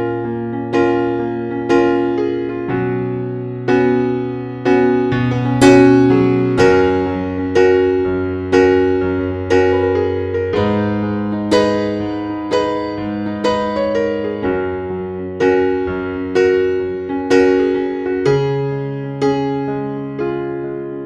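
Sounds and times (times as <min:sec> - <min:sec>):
gentle electric piano music: 0:00.0 - 0:21.0.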